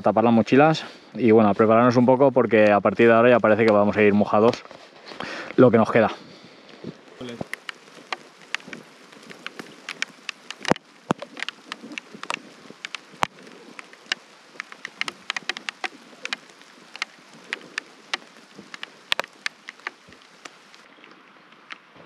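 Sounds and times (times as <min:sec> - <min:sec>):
faint hiss: 0:00.0 - 0:22.0
raindrops hitting camera: 0:00.0 - 0:22.0.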